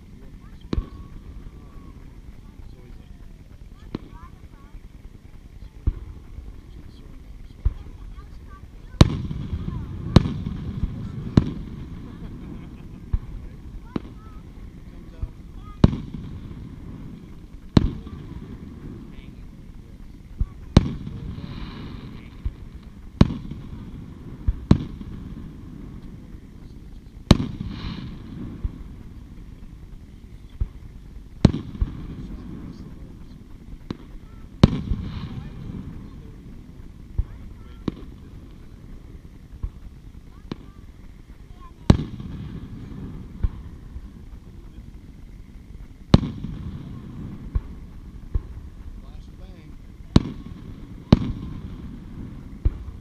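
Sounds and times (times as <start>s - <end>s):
fireworks booming: 0.0s - 53.0s
fireworks hiss: 0.0s - 53.0s
fireworks popping: 0.0s - 53.0s
rumbling echo: 0.0s - 53.0s.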